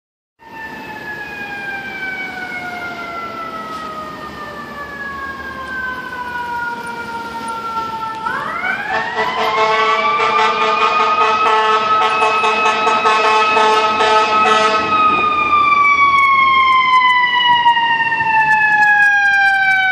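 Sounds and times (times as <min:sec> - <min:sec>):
fire engine mechanical siren: 0:00.4 - 0:19.9.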